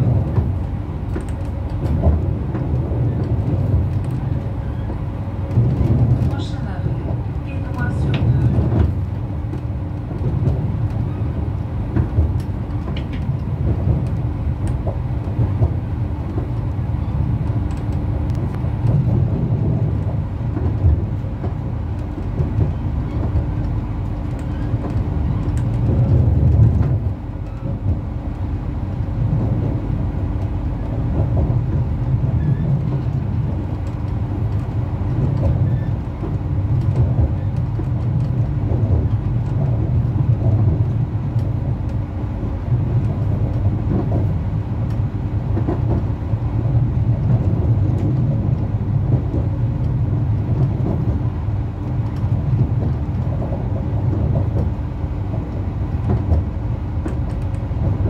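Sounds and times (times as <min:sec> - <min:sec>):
train running gear rumble: 0:00.0 - 0:58.0.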